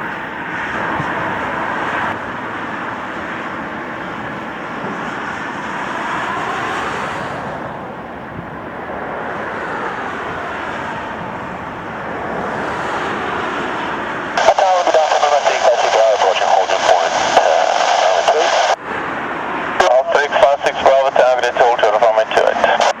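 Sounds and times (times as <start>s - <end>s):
aircraft engines drone: 0.0s - 23.0s.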